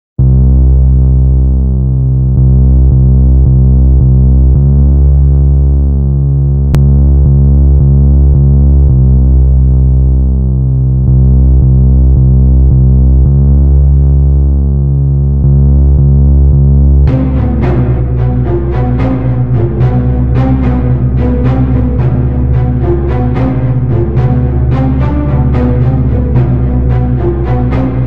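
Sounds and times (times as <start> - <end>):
deep synthesizer music: 0.2 - 28.0.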